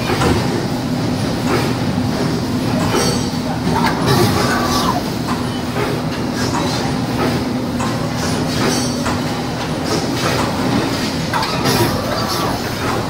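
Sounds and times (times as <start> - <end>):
machine clanks and clatter: 0.0 - 13.0.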